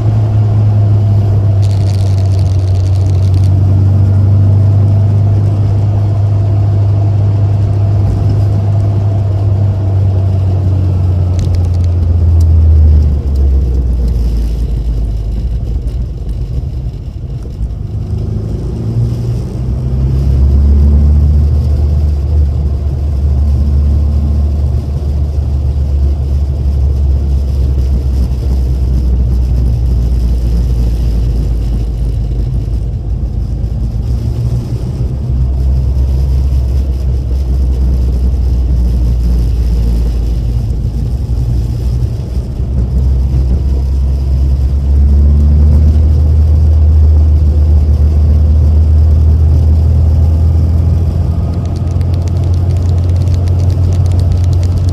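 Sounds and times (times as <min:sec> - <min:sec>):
car engine low drone: 0:00.0 - 0:54.9.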